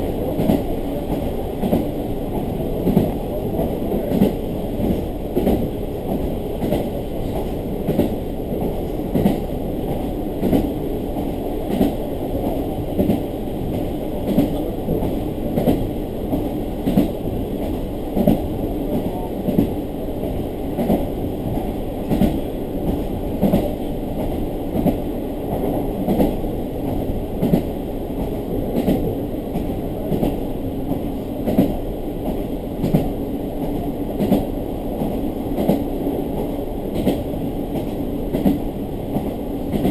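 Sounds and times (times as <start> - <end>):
train engine and wheels rumbling: 0.0 - 39.9.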